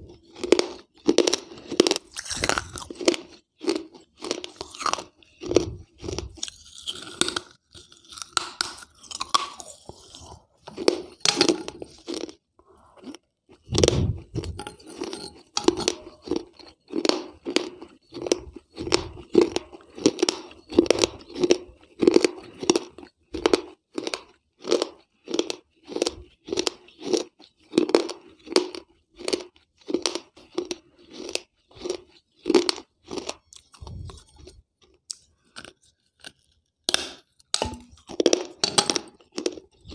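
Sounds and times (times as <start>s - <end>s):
chewing and crunching clay: 0.0s - 39.9s.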